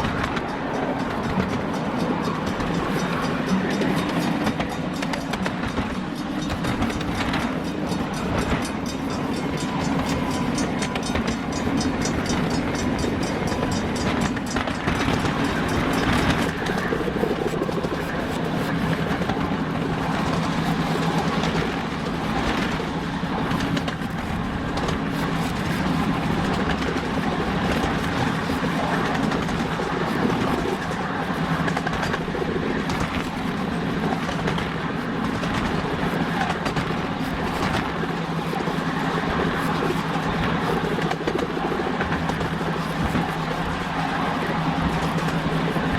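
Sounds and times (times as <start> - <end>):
train clickety-clack: 0.0 - 45.9
train wheels rumbling on rails: 0.0 - 45.9.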